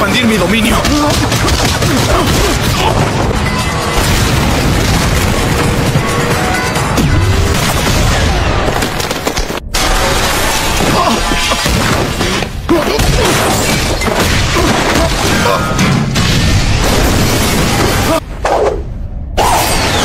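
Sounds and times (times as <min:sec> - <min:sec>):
dramatic background music: 0:00.0 - 0:16.2.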